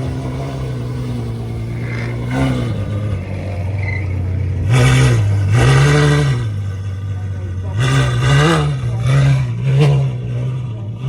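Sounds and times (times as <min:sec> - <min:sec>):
car engine idling: 0:00.0 - 0:11.0
engine throttle revs: 0:00.0 - 0:11.0.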